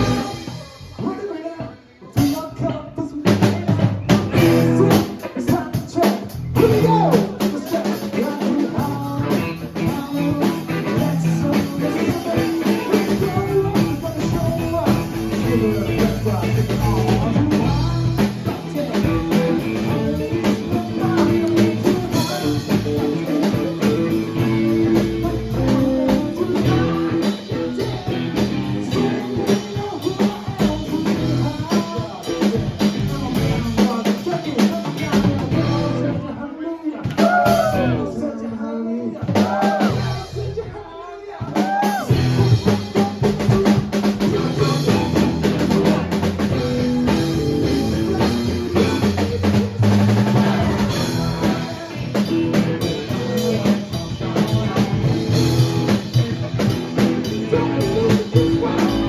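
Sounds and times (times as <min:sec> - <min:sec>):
person singing: 0:00.0 - 0:03.8, 0:04.4 - 0:59.0
drum kit beat: 0:00.0 - 0:36.2, 0:37.0 - 0:38.0, 0:39.2 - 0:40.7, 0:41.3 - 0:59.0
live rock band playing: 0:00.0 - 0:36.4, 0:37.1 - 0:38.2, 0:39.3 - 0:40.7, 0:41.6 - 0:59.0.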